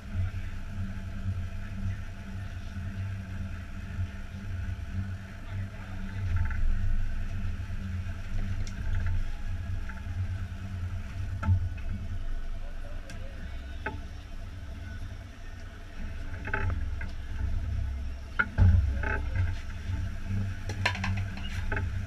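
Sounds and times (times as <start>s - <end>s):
boat engine low rumble: 0.0s - 22.0s.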